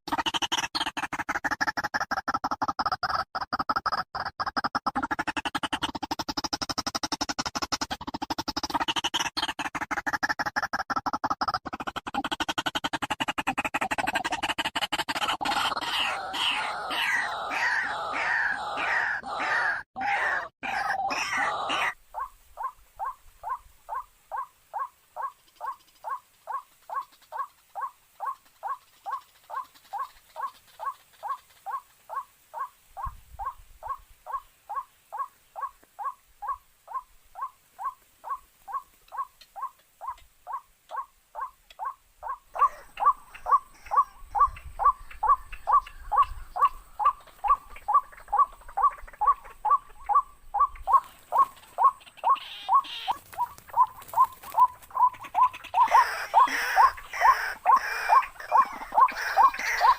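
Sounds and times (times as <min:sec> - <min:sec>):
bird calling: 0:07.8 - 0:59.9.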